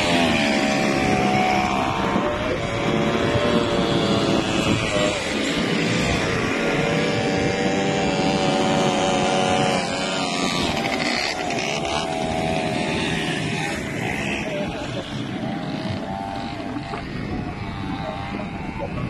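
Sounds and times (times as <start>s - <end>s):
quad bike engines revving: 0.0s - 19.0s.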